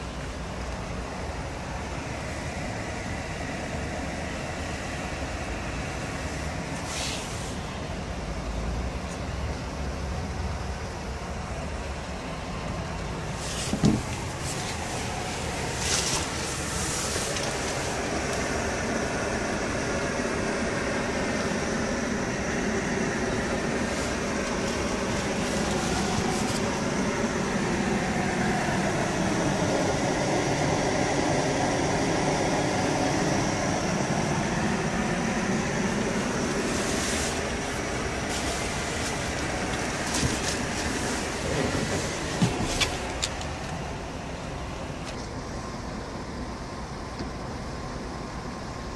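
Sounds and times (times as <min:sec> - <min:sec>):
vehicle noise: 0:00.0 - 0:48.9.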